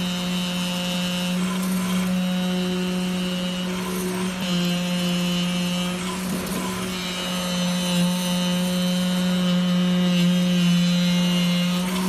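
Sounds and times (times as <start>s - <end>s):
cutting machine buzzing hum: 0.0s - 12.0s.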